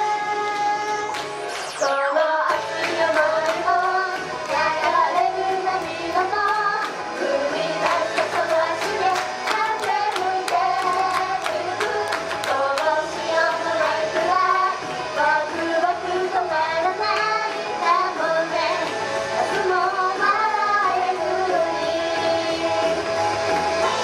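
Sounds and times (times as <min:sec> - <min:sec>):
pop backing track: 0:00.0 - 0:24.0
women singing into microphones: 0:01.8 - 0:23.1.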